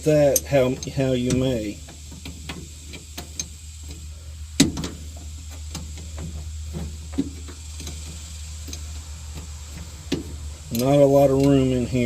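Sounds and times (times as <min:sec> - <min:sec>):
steady low hum: 0:00.0 - 0:12.0
tools clicking and knocking: 0:00.3 - 0:04.0, 0:04.6 - 0:11.6.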